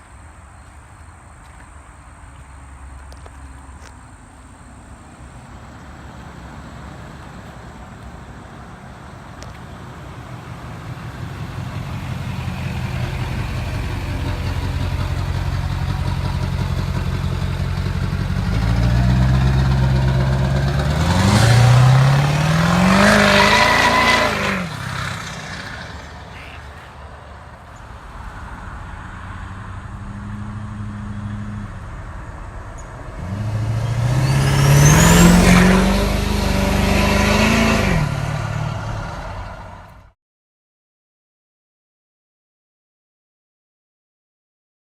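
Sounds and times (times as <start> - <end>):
diesel pickup truck accelerating: 0.0 - 40.2.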